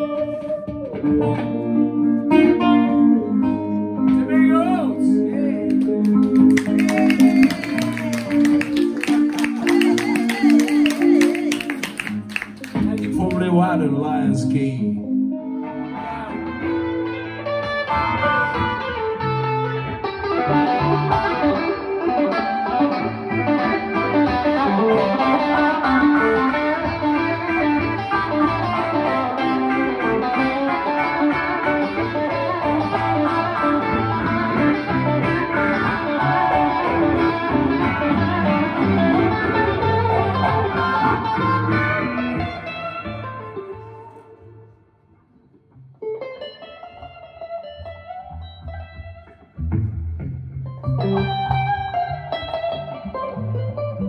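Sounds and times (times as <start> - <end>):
blues guitar playing: 0.0 - 54.0.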